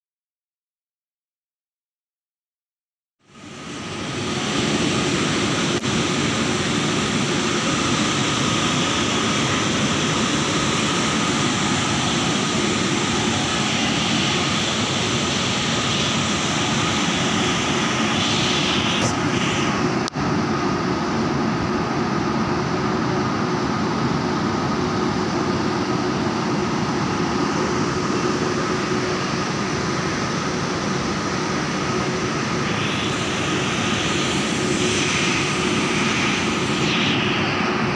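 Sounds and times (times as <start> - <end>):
electric locomotive blowers humming: 3.4 - 23.0, 23.7 - 37.9.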